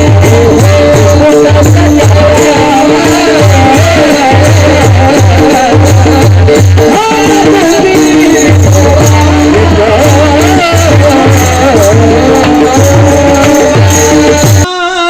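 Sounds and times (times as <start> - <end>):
jingling percussion: 0.0 - 14.7
low drum beat: 0.0 - 14.7.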